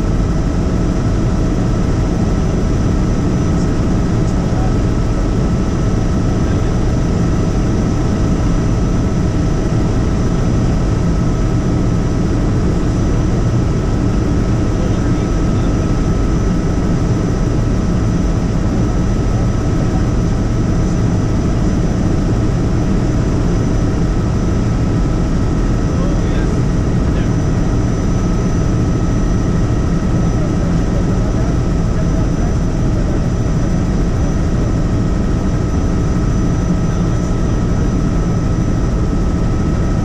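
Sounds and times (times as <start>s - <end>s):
constant high whine: 0.0s - 40.0s
helicopter rotor and engine drone: 0.0s - 40.0s.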